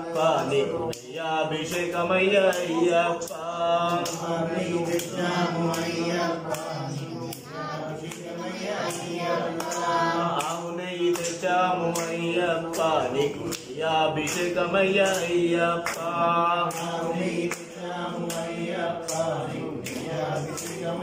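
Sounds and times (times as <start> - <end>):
voices chanting devotional song: 0.0 - 21.0.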